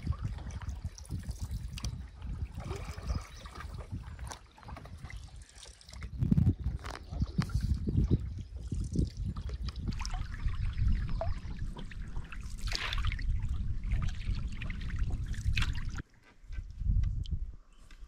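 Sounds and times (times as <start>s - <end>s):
paddle splashing water: 0.0s - 16.1s.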